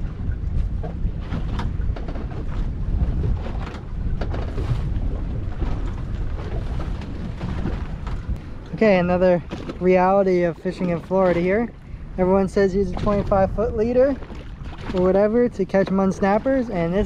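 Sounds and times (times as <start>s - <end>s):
sea water moving around boat: 0.0s - 17.0s
wind buffeting microphone: 0.0s - 17.0s.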